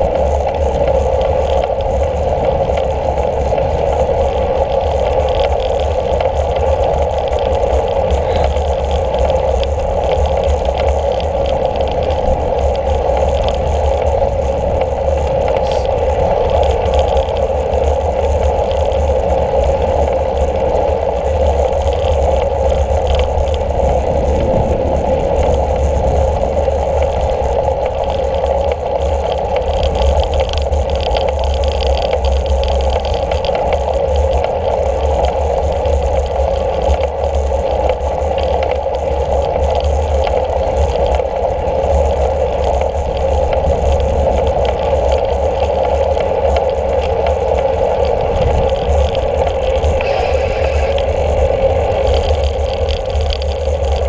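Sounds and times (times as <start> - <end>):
faint ticks and rattles: 0.0 - 54.0
wind and road noise: 0.0 - 54.0.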